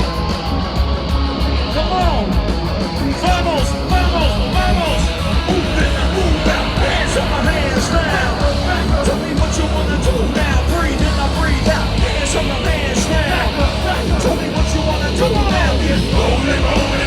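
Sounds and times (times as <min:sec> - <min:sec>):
crowd yelling: 0:00.0 - 0:17.0
heavy pulsing bass: 0:00.0 - 0:17.0
live rock music: 0:00.0 - 0:17.0.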